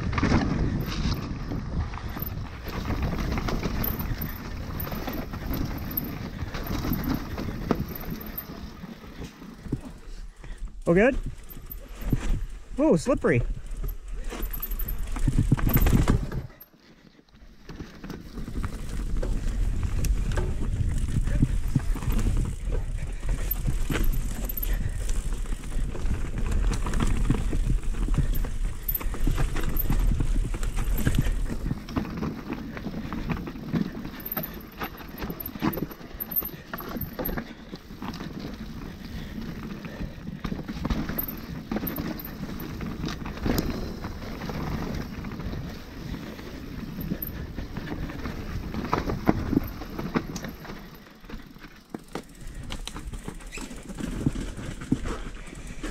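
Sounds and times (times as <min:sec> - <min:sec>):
mountain bike rattling on trail: 0:00.0 - 0:55.9.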